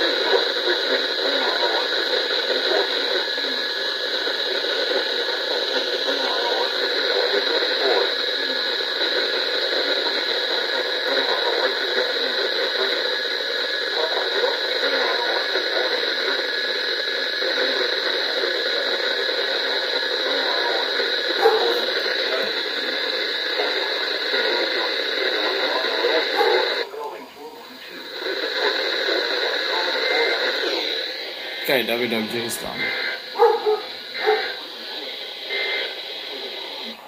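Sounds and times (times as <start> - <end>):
radio static hiss: 0.0 - 37.0.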